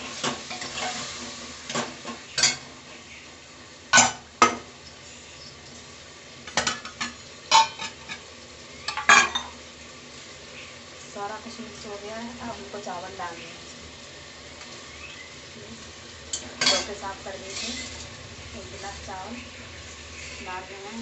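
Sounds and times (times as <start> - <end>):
faint sizzling: 0.0 - 21.0.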